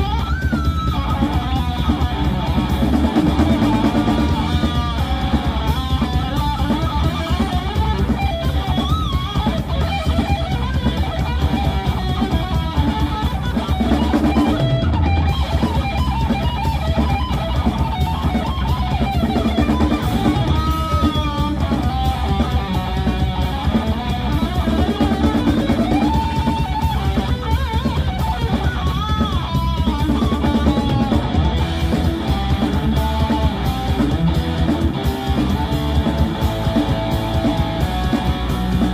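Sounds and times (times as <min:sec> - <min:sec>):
electric guitar lead: 0:00.0 - 0:38.9
rock band playing: 0:00.0 - 0:38.9.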